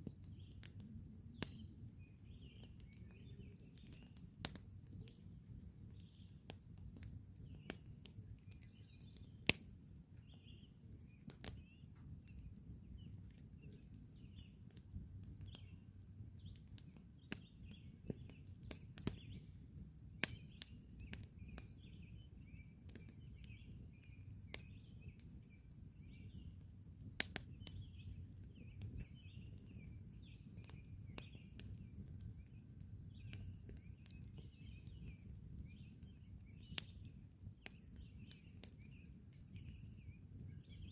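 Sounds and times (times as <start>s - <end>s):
birds chirping: 0.0s - 19.6s, 20.2s - 40.9s
campfire crackling: 0.0s - 40.9s.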